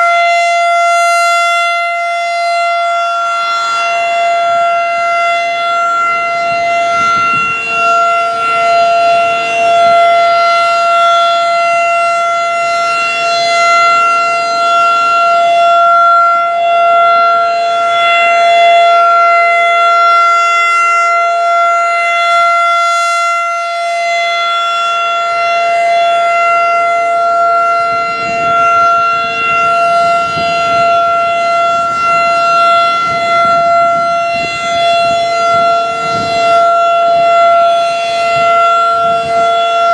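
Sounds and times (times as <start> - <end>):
lower steady siren tone: 0.0 - 39.9
rotating warning siren: 0.0 - 39.9.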